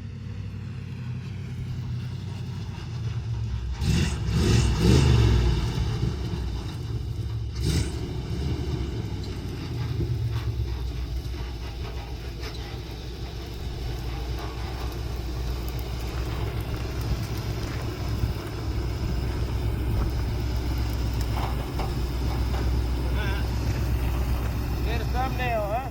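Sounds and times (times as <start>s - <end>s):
vehicle engine rumbling: 0.0s - 25.9s.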